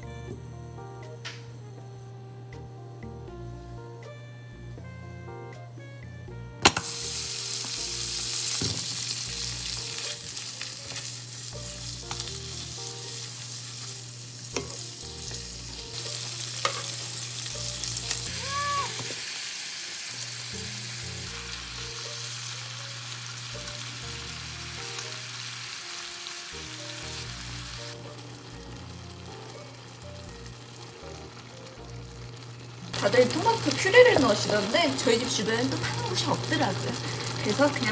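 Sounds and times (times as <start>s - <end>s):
food sizzling in a frying pan: 6.6s - 37.9s.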